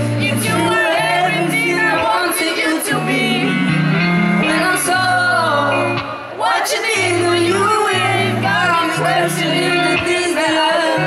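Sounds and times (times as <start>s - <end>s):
band playing: 0.0s - 11.0s
woman singing into a microphone: 0.0s - 11.0s.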